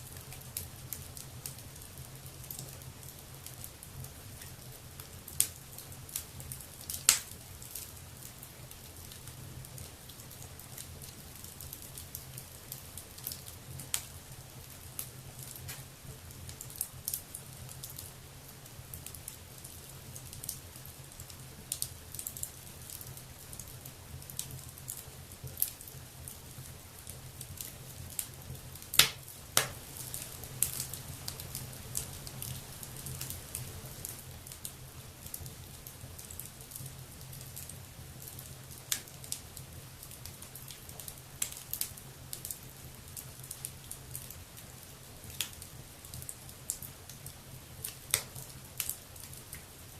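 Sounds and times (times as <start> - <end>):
faint fire hiss: 0.0 - 49.9
wood fire crackling and popping: 0.0 - 49.9.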